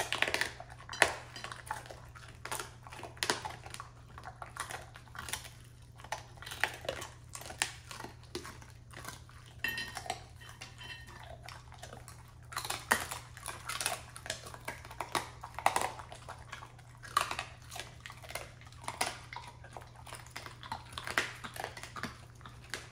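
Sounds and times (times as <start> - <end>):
dogs chewing and crunching food: 0.0 - 22.9
teeth clicking against plates: 0.0 - 22.9.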